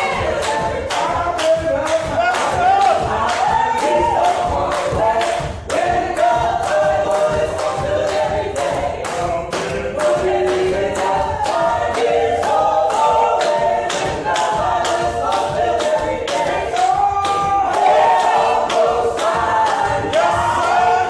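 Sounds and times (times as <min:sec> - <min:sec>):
choir singing gospel: 0:00.0 - 0:21.0
sharp rhythmic beats: 0:00.0 - 0:21.0.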